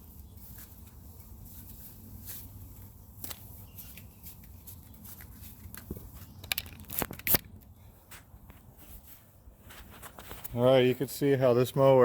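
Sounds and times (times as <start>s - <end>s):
rustling and crinkling handling: 0.0s - 12.0s.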